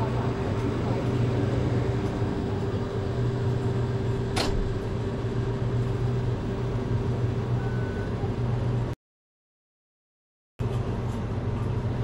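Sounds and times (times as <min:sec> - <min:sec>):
steady mechanical hum: 0:00.0 - 0:09.0, 0:10.6 - 0:12.0.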